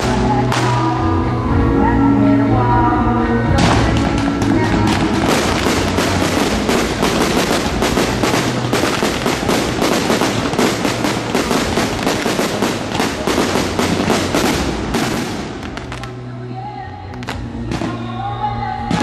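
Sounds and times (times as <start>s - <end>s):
fireworks bangs and crackles: 0.0s - 1.1s, 3.5s - 16.3s, 17.1s - 18.1s, 18.7s - 19.0s.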